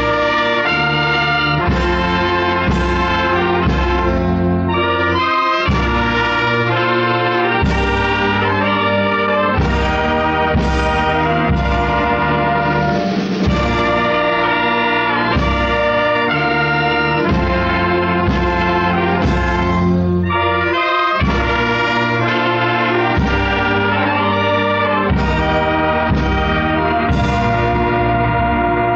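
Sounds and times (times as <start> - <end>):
brass band playing chords: 0.0 - 28.9.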